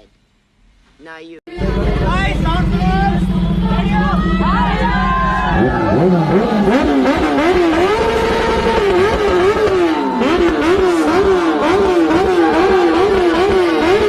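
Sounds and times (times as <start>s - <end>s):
motorcycle engine revving: 1.5s - 14.0s.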